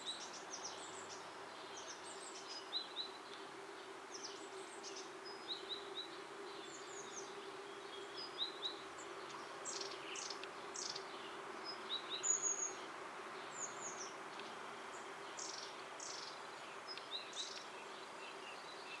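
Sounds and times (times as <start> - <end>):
faint hum and hiss: 0.0 - 19.0
small birds chirping: 0.0 - 19.0.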